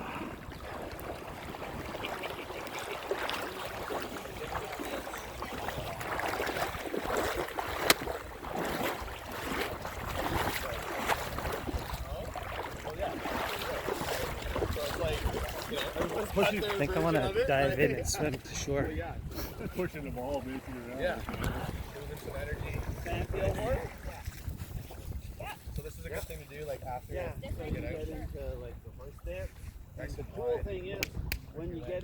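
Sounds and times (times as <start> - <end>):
water splashing: 0.0 - 26.8
wind on microphone: 0.0 - 32.0.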